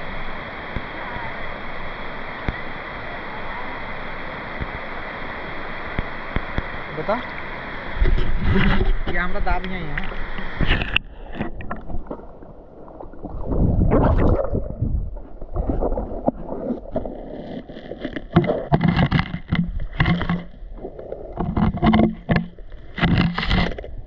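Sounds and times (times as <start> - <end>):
muffled underwater rumble: 0.0 - 24.0
underwater bubbling and sloshing: 0.0 - 24.0.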